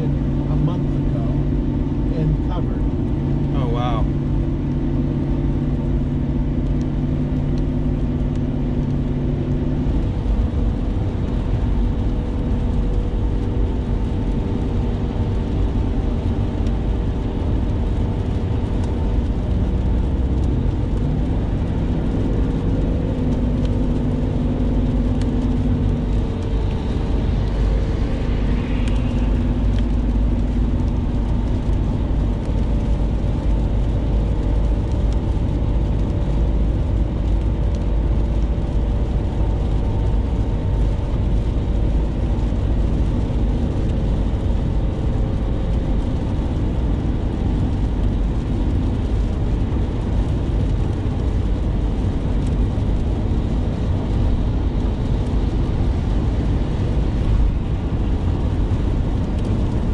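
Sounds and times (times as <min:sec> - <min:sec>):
low even rumble: 0:00.0 - 0:59.9
tyres on wet pavement: 0:00.0 - 0:59.9.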